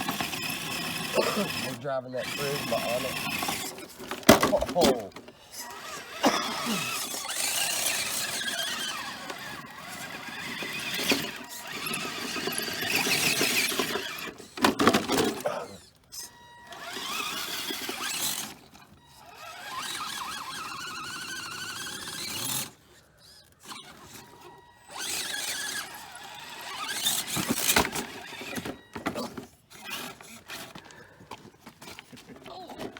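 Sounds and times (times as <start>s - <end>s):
electric motor whining: 0.0s - 32.9s.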